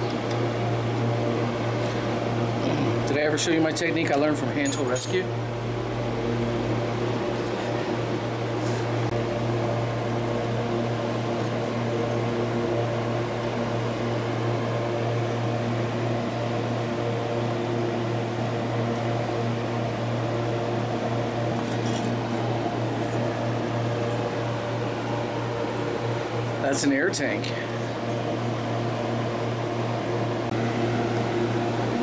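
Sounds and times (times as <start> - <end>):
machinery humming: 0.0 - 32.0.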